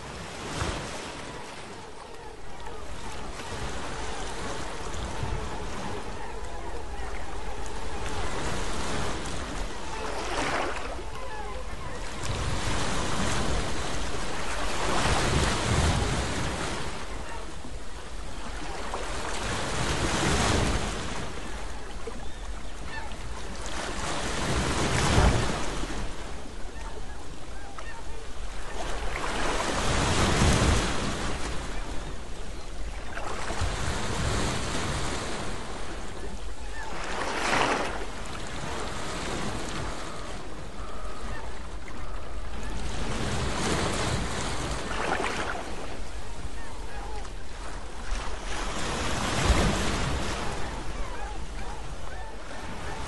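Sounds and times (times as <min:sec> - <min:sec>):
water rushing around boat: 0:00.0 - 0:53.0.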